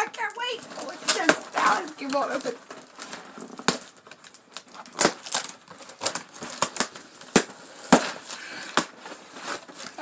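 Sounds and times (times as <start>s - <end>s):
packing paper crinkling: 0.0s - 10.0s.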